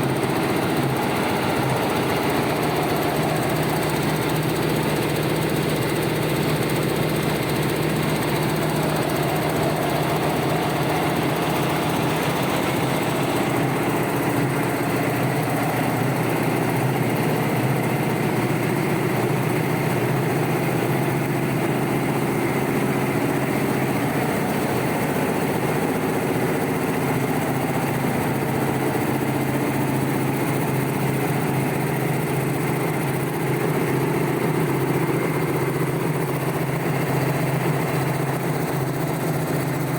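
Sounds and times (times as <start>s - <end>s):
knitting machine running: 0.0s - 39.9s.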